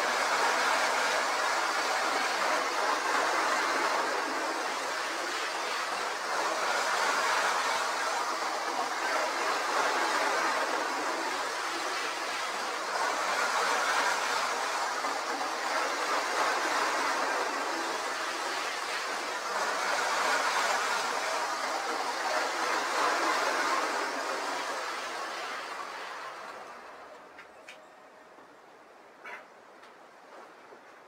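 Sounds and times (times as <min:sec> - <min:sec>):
model train motors whirring: 0:00.0 - 0:27.8.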